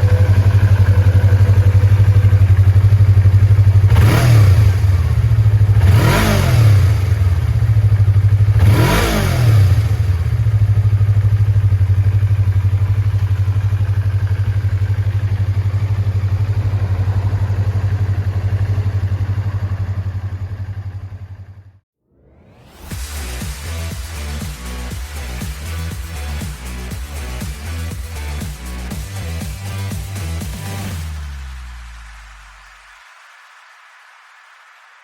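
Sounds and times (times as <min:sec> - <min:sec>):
motorcycle engine idling and revving: 0:00.0 - 0:21.8, 0:22.9 - 0:32.0.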